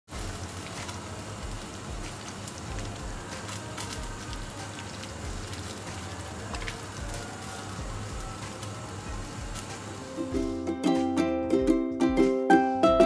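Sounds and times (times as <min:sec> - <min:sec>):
food sizzling in oil: 0:00.1 - 0:10.7.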